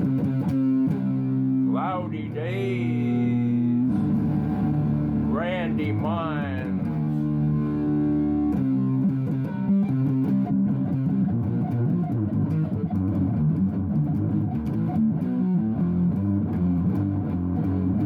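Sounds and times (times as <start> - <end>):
instrumental guitar music: 0.0 - 18.0
bass line: 0.9 - 18.0.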